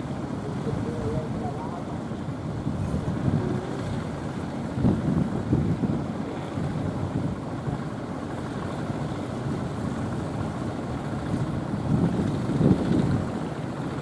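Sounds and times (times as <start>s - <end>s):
rushing surf: 0.0s - 14.0s
wind buffeting microphone: 0.0s - 14.0s.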